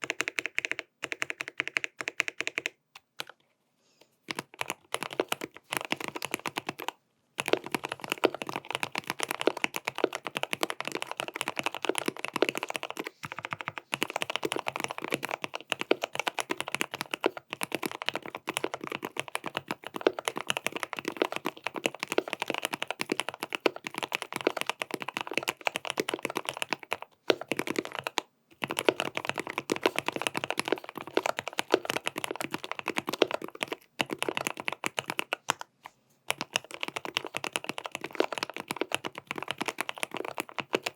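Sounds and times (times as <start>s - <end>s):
fast mechanical keyboard typing: 0.0s - 3.3s, 4.3s - 35.6s, 36.3s - 40.9s.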